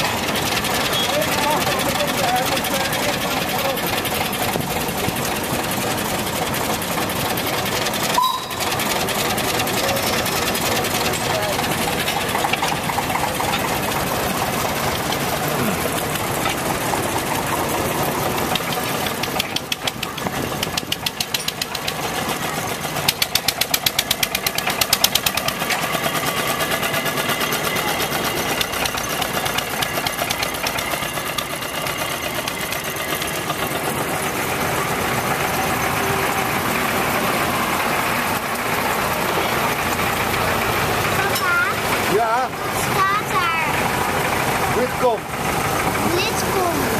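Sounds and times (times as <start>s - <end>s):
diesel locomotive engines running: 0.0s - 46.9s
rhythmic knocking chug: 0.0s - 46.9s.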